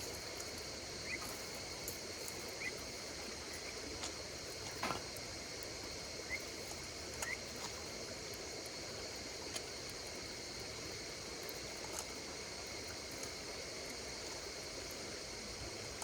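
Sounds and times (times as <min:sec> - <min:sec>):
campfire crackling and popping: 0:00.0 - 0:16.0
insects chirping: 0:00.0 - 0:16.0.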